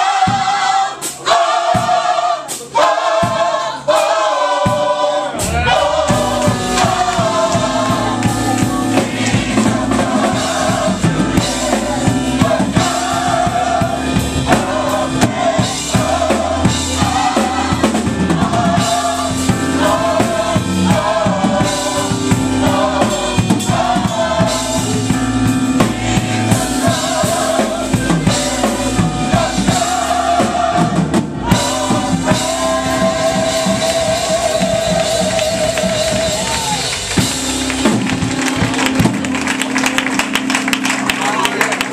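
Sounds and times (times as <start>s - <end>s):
drum kit beat: 0.0s - 41.9s
gospel choir singing: 0.0s - 41.9s
bass guitar: 5.4s - 41.9s.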